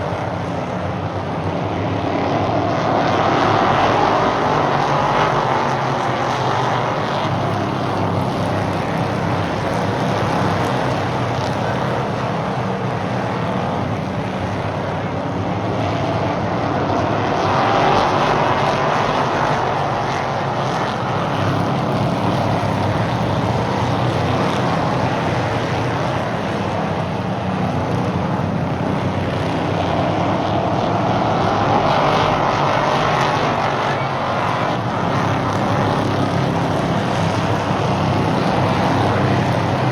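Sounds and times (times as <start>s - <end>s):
racing car engines droning: 0.0s - 39.9s.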